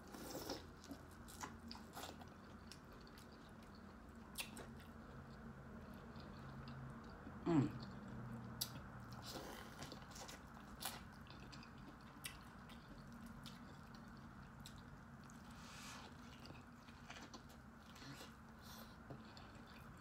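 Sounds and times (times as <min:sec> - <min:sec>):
wet chewing and lip-smacking: 0:00.1 - 0:20.0.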